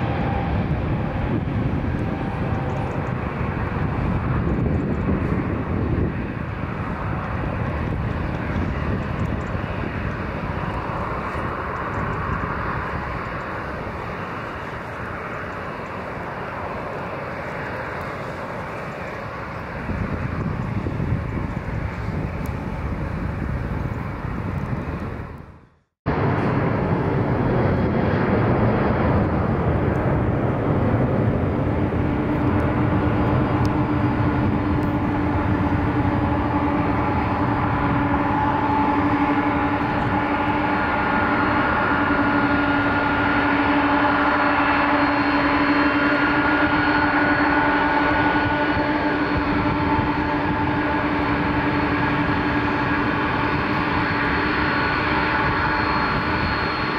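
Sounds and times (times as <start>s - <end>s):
aircraft engines rushing: 0.0s - 56.9s
engine whining tones: 0.0s - 56.9s.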